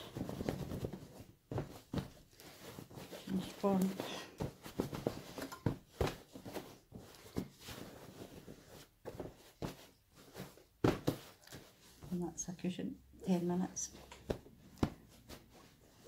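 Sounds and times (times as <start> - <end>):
soft cushion thumps: 0.0 - 12.2, 14.0 - 16.0
fabric rustling: 0.0 - 12.5, 13.2 - 16.0.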